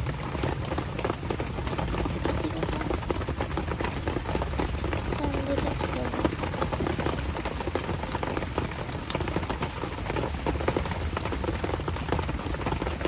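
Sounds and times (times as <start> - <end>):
raindrops ticking on surfaces: 0.0 - 13.0
steady rain: 0.0 - 13.0.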